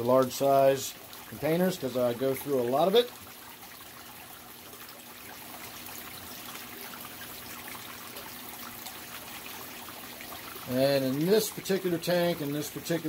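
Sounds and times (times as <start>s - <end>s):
aquarium waterfall splashing: 0.0s - 13.0s
faint steady hum: 0.0s - 13.0s.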